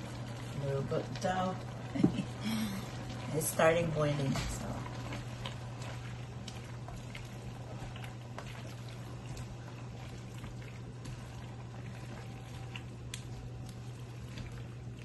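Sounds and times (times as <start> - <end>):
pot of broth bubbling: 0.0 - 15.0
steady low hum: 0.0 - 15.0.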